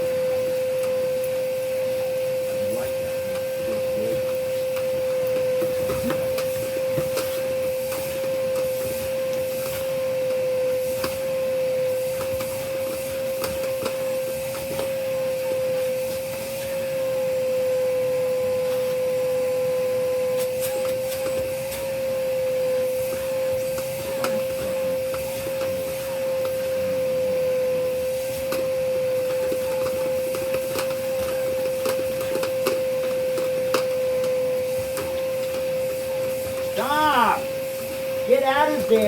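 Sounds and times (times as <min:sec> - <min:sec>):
vacuum cleaner whine: 0:00.0 - 0:39.0.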